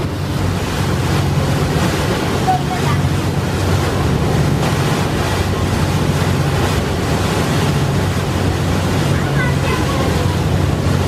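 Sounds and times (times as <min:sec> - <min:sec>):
boat engine droning: 0:00.0 - 0:11.0
river water: 0:00.0 - 0:11.0
wind on microphone: 0:00.0 - 0:11.0.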